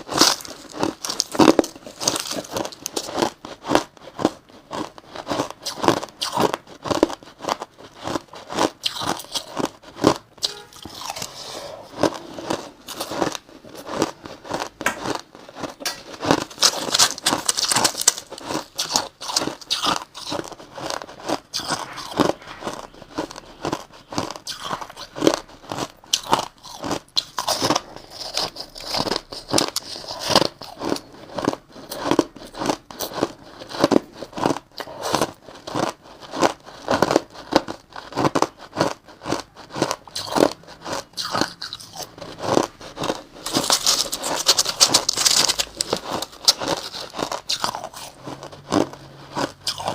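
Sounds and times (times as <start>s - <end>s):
ice being crunched and chewed: 0.0s - 49.9s.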